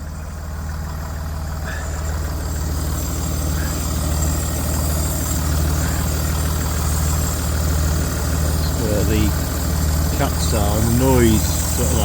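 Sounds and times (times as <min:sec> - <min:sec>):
car engine idling: 0:00.0 - 0:12.0
whirring hiss under car: 0:00.1 - 0:12.0.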